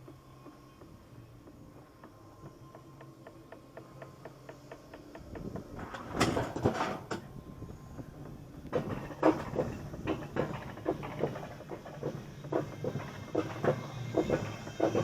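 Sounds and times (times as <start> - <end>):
sled rattling along steel track: 0.0 - 15.0.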